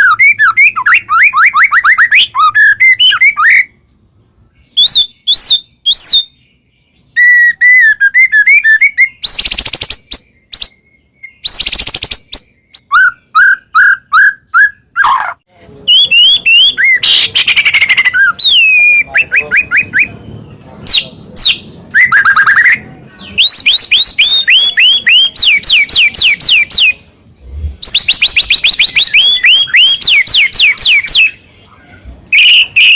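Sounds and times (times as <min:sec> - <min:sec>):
bird singing whistled song: 0:00.0 - 0:03.8, 0:04.5 - 0:15.2, 0:15.8 - 0:20.2, 0:20.9 - 0:27.0, 0:27.8 - 0:31.4, 0:32.3 - 0:32.9.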